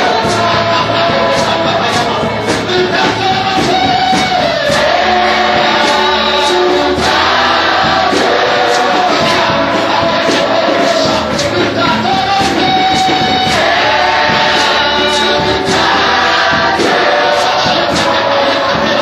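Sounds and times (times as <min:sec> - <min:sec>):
choir singing gospel song: 0:00.0 - 0:19.0
full band with drums: 0:00.0 - 0:19.0.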